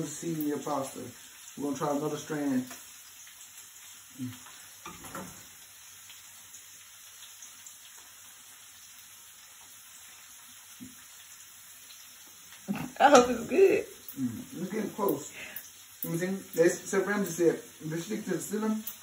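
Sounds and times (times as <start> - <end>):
food sizzling in a skillet: 0.0 - 19.0.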